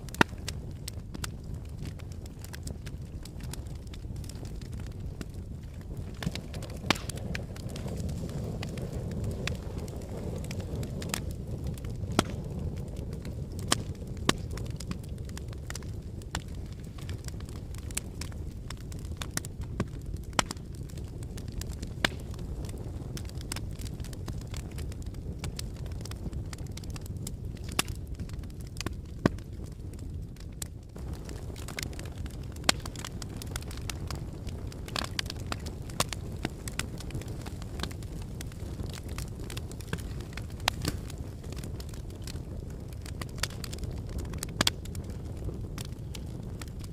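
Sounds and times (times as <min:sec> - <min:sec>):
fire crackling: 0:00.0 - 0:46.9.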